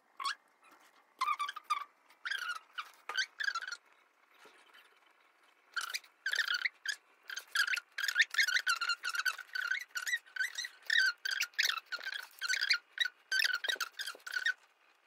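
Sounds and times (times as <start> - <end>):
small animal squeaking: 0.2 - 14.9.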